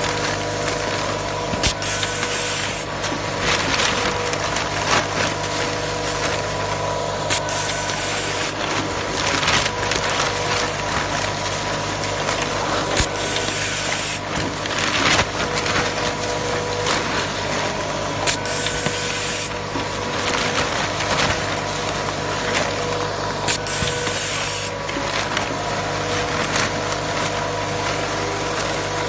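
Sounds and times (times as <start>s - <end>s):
machinery running: 0.0s - 28.5s.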